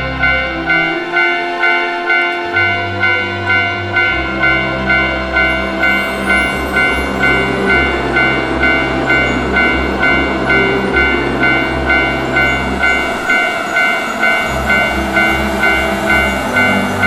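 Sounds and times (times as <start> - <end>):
passing train rumble: 0.0 - 17.0
railroad crossing bell ringing: 0.0 - 17.0.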